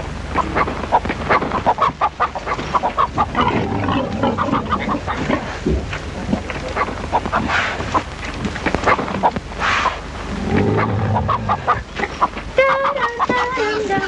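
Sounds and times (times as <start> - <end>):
chickens calling: 0.0 - 14.0
pigs calling: 0.3 - 8.1, 8.7 - 14.0.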